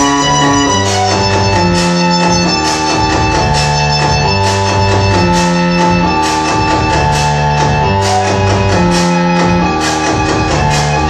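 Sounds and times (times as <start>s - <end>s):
organ-like drone tones: 0.0s - 11.0s
synthesizer bass line: 0.0s - 11.0s.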